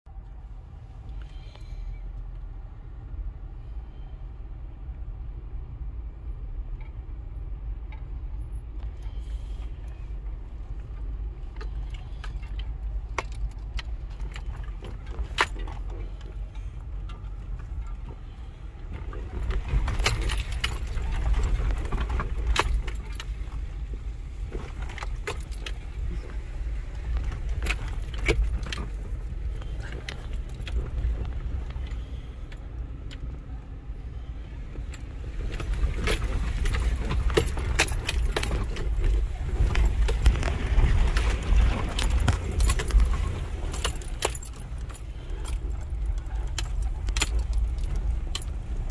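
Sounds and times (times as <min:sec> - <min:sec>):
vehicle engine and tyres rumbling: 0:00.0 - 0:48.9.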